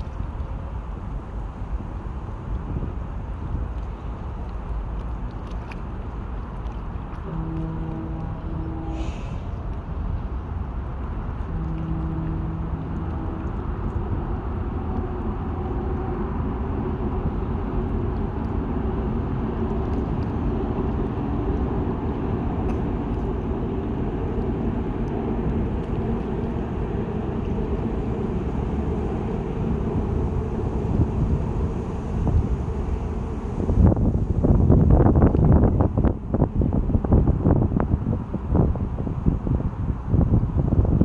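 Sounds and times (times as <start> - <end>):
train rumbling on bridge: 0.0 - 41.0
wind buffeting microphone: 0.0 - 41.0.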